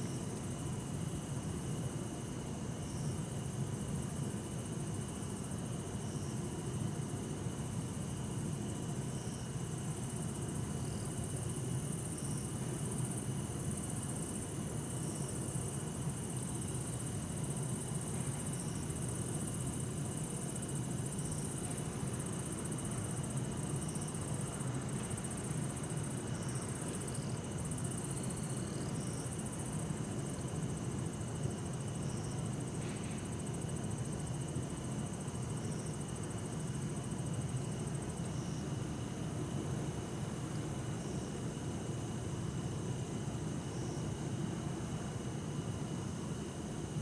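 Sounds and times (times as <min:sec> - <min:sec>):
crickets singing: 0:00.0 - 0:47.0.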